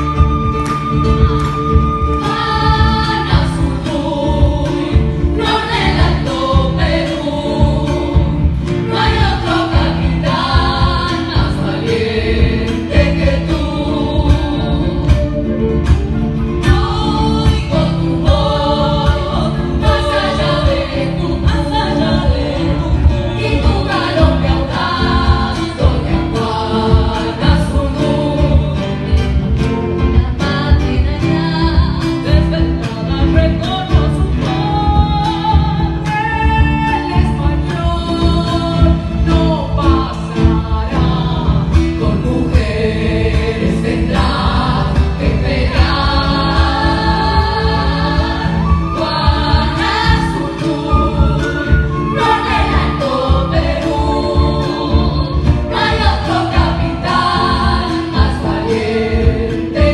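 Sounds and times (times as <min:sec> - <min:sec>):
women singing through pa: 0:00.0 - 0:59.9.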